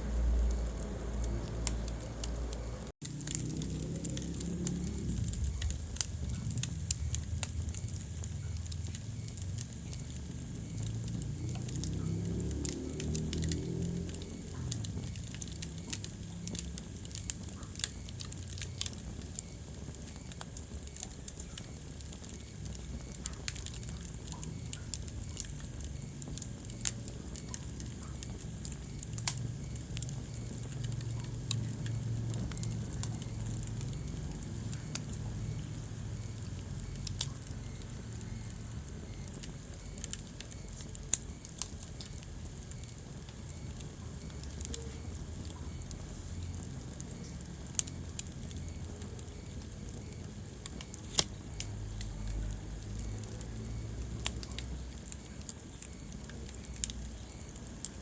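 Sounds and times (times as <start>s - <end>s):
low steady rumble: 0.0s - 58.0s
wood fire crackling: 0.0s - 58.0s.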